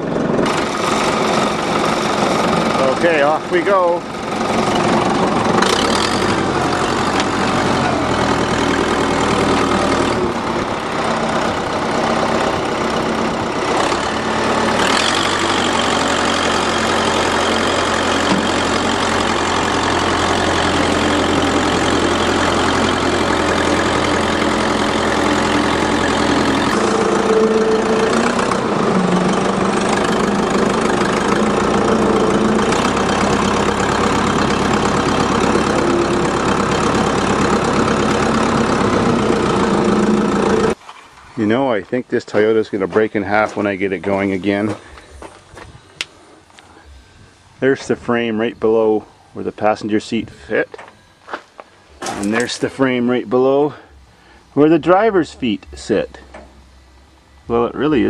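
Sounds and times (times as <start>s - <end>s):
vehicle engine running: 0.0s - 40.8s, 50.4s - 58.0s.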